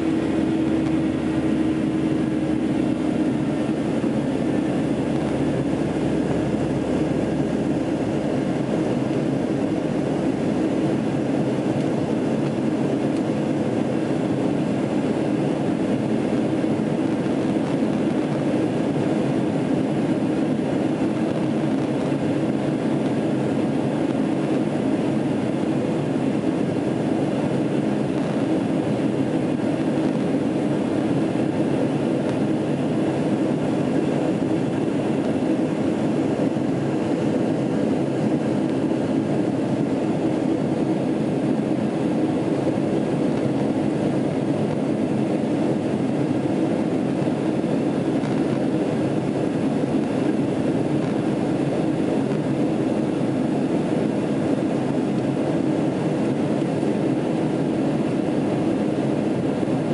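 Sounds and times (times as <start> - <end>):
jet engines droning: 0.0 - 59.9
rushing air in cabin: 0.0 - 59.9.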